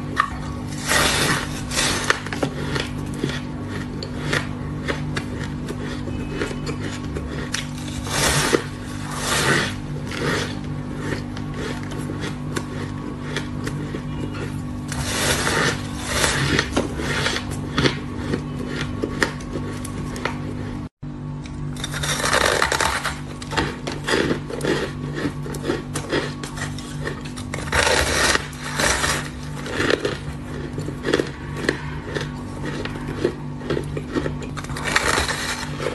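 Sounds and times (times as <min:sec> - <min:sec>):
ice being chewed: 0:00.0 - 0:35.9
steady low hum: 0:00.0 - 0:35.9.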